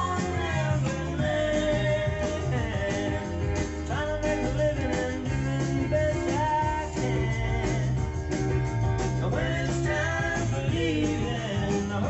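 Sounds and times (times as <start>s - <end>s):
song with singing and guitar: 0.0s - 12.0s.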